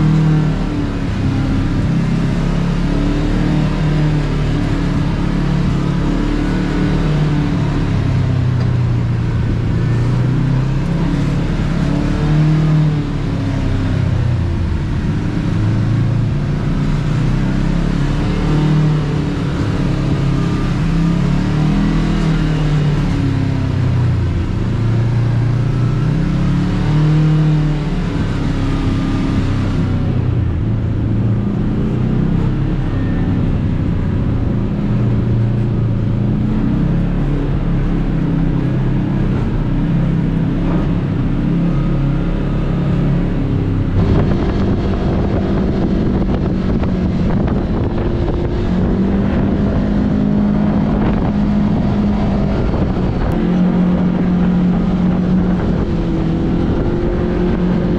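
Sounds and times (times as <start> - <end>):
vehicle engine revving at low speed: 0.0 - 57.9.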